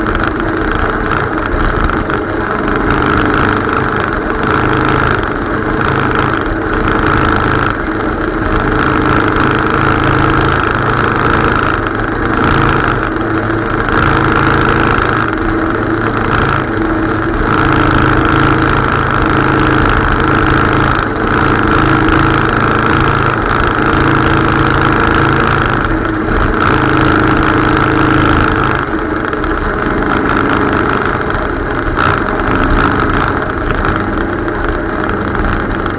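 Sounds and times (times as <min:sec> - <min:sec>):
motorcycle engine running: 0:00.0 - 0:35.9
wind and road noise: 0:00.0 - 0:35.9.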